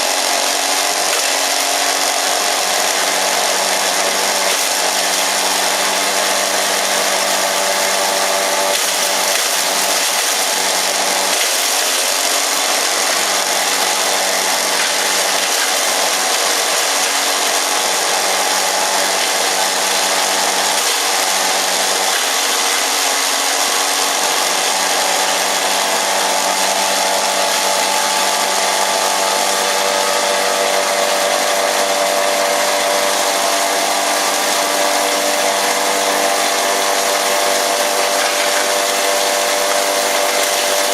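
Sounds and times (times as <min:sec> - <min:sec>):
herb grinder motor whine: 0:00.0 - 0:40.9.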